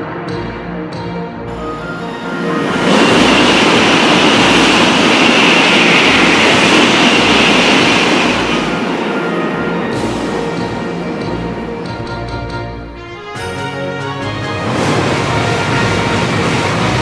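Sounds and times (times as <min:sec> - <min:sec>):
high-speed train rushing past: 0:00.0 - 0:17.0.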